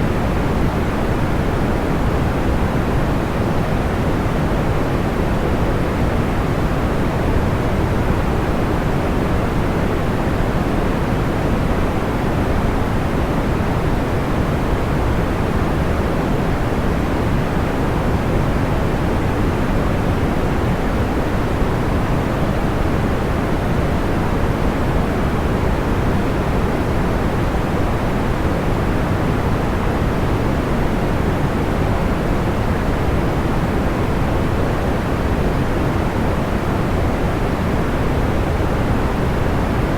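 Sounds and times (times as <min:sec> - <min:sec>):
soft white noise rush: 0:00.0 - 0:39.9.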